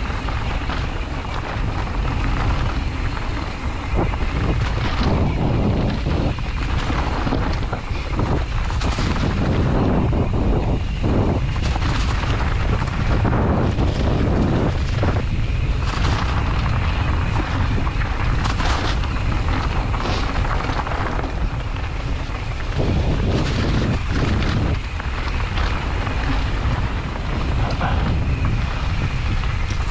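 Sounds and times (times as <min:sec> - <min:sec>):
bike knocks and rattles: 0:00.0 - 0:29.9
constant low rumble: 0:00.0 - 0:29.9
wind buffeting microphone: 0:00.0 - 0:29.9.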